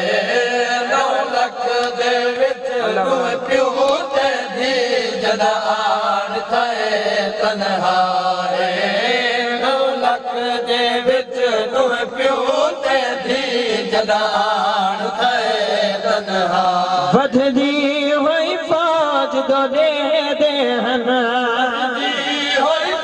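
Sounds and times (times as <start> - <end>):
man chanting a lament: 0.0 - 23.0.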